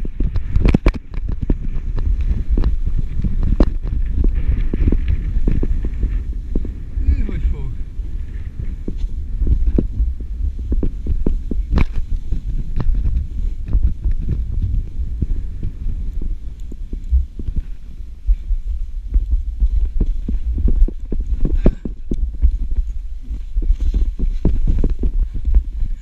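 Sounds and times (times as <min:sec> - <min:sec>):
knocks and scrapes on snow: 0:00.0 - 0:26.0
wind buffeting microphone: 0:00.0 - 0:26.0.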